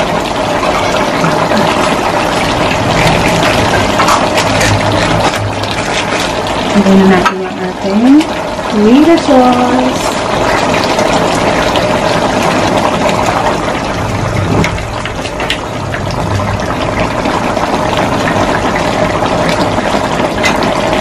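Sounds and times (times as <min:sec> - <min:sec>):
stew bubbling: 0:00.0 - 0:21.0.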